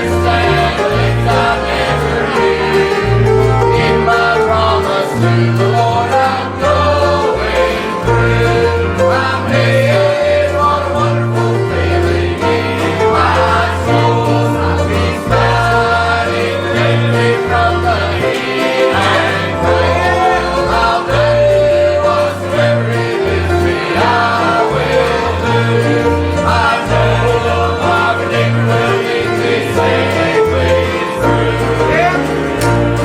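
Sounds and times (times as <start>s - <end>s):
group singing gospel song: 0.0s - 33.0s
string band accompaniment: 0.0s - 33.0s.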